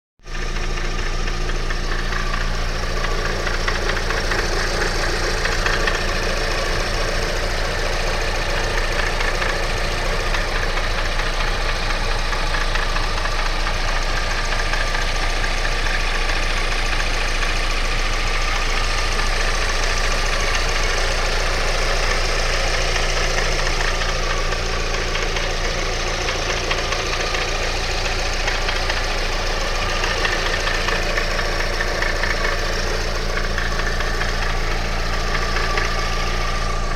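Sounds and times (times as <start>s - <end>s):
car engine running: 0.2s - 36.9s
engine knocking rattle: 0.2s - 36.9s.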